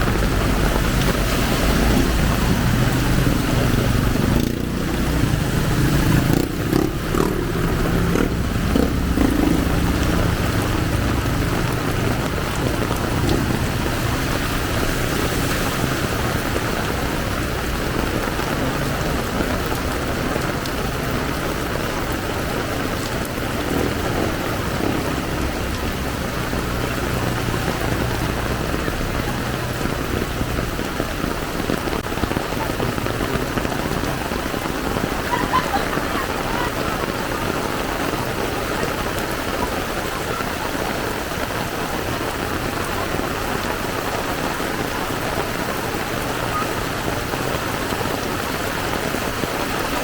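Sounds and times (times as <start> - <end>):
passing traffic engine hum: 0.0 - 49.9
heavy rain pouring on street: 0.0 - 50.0.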